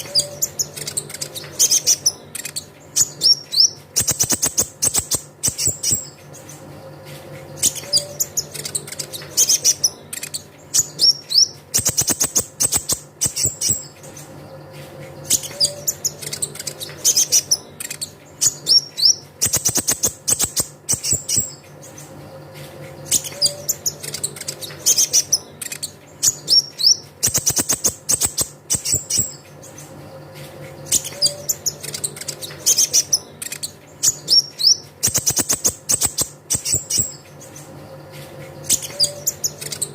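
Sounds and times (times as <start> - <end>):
bird chips and twittering: 0.0 - 39.9.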